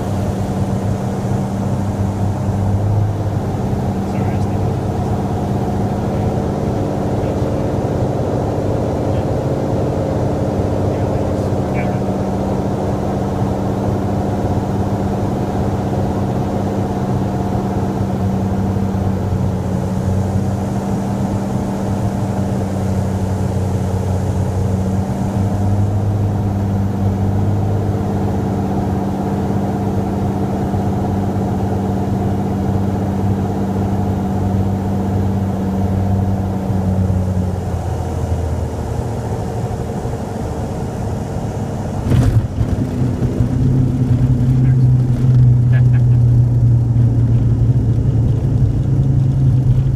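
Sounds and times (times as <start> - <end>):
aircraft engine and propeller droning: 0.0 - 49.9.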